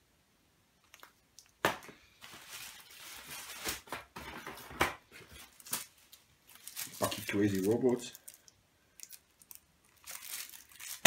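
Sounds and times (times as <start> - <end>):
plastic and cardboard rustling: 1.6 - 11.0.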